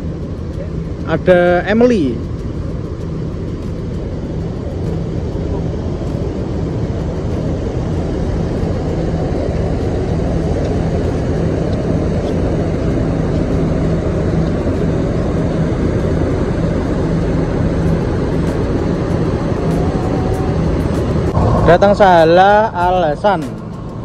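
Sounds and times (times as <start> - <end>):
diesel coach engine droning: 0.0 - 24.0.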